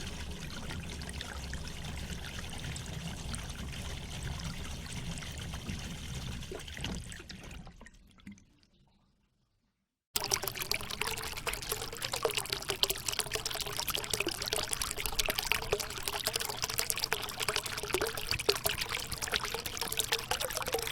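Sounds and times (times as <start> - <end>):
water pouring and trickling: 0.0 - 8.9, 10.2 - 20.9.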